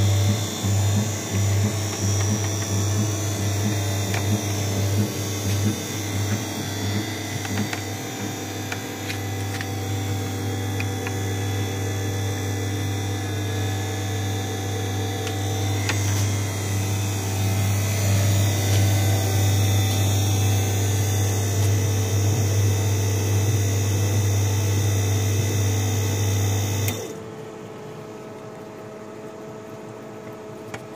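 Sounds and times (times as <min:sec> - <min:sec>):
electric motor humming: 0:00.0 - 0:27.0.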